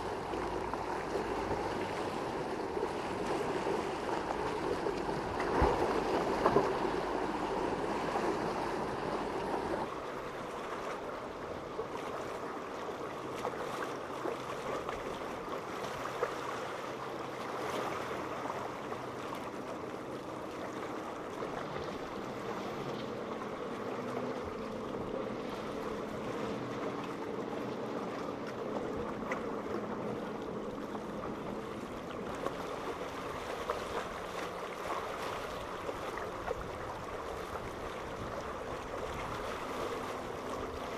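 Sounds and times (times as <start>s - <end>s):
boat engines droning: 0.0s - 40.9s
rushing water and waves: 0.0s - 40.9s
wind: 0.0s - 40.9s.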